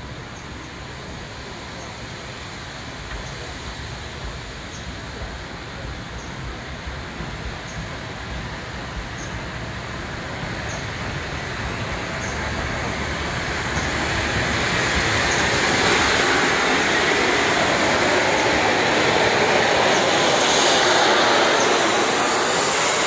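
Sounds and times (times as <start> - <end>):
steam locomotive wheels rumbling: 0.0 - 23.0.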